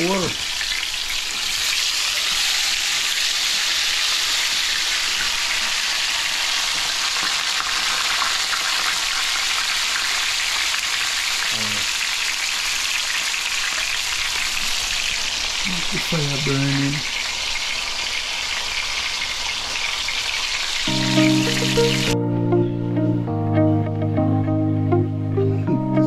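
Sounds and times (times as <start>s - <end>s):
fish frying in hot oil: 0.0s - 22.1s.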